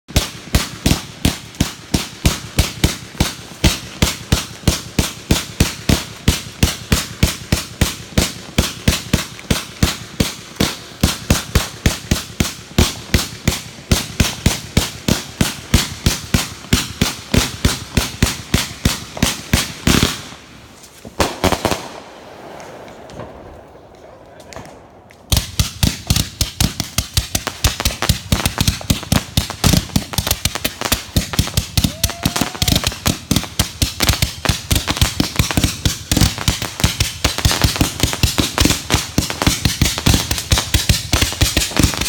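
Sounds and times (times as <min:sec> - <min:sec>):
fireworks bangs: 0:00.1 - 0:42.0.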